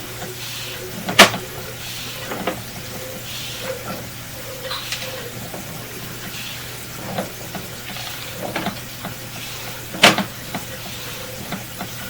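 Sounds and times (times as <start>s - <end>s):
steady low hum: 0.0s - 12.0s
cable scraping and clicking in pipe: 2.2s - 12.0s.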